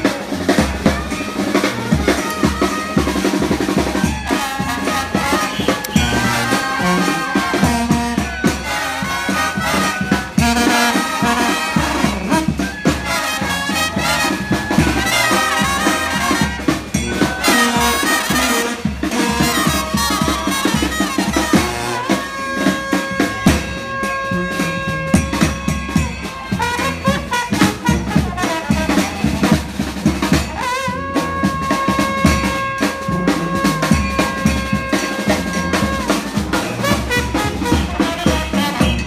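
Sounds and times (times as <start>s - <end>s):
horn holding long notes: 0.0s - 29.7s, 30.4s - 39.0s
steady drum beat: 0.0s - 39.0s.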